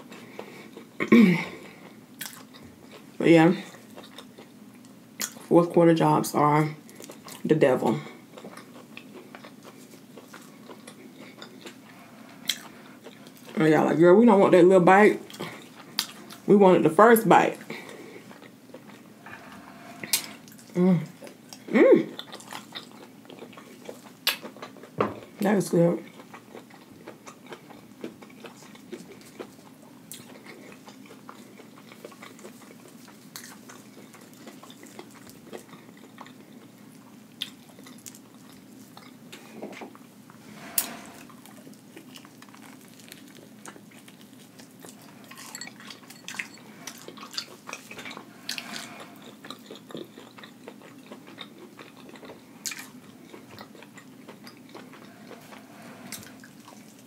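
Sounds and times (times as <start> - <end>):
close-miked crunchy chewing: 0.0 - 5.5, 6.7 - 16.6, 17.3 - 57.0.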